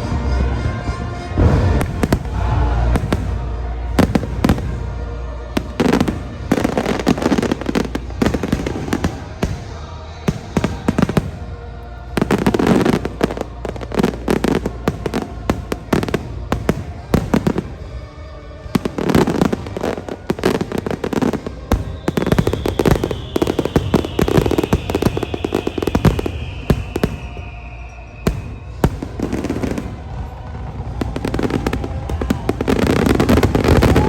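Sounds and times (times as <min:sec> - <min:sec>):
fireworks bangs and crackles: 0:00.0 - 0:34.0
show music soundtrack: 0:00.0 - 0:34.0.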